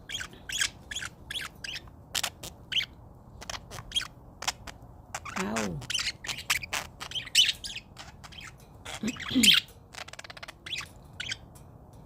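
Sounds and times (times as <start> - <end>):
parakeet chirping: 0.0 - 11.6.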